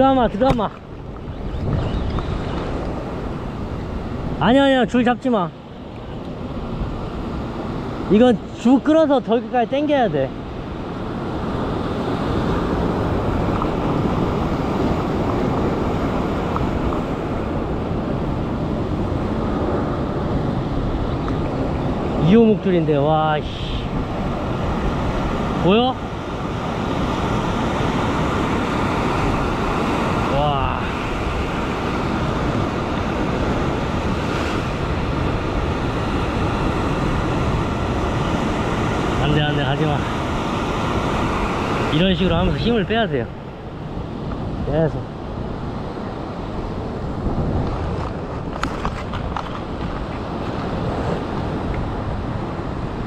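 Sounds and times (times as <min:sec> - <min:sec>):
wind buffeting microphone: 0:00.0 - 0:08.8, 0:10.1 - 0:53.0
ocean surf breaking on rocks: 0:00.0 - 0:53.0.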